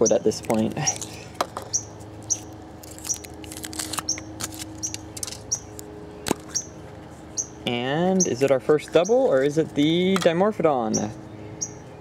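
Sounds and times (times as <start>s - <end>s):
bird chirping: 0.0s - 3.3s, 4.0s - 9.3s, 10.8s - 12.0s.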